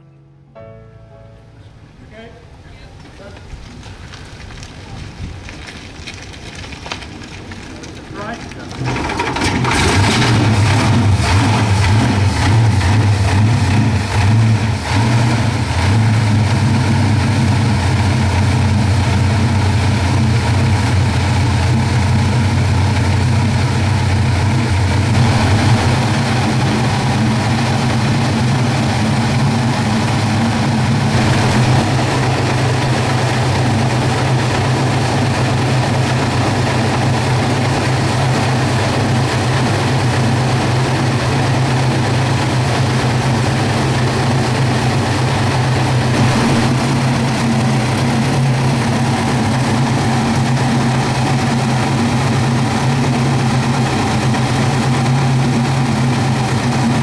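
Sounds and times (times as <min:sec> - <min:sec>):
aero engine running steadily: 0:07.8 - 0:57.0.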